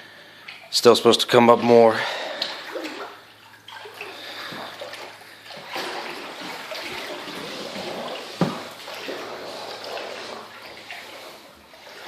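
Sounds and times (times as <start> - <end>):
wading through floodwater: 0.4 - 12.0.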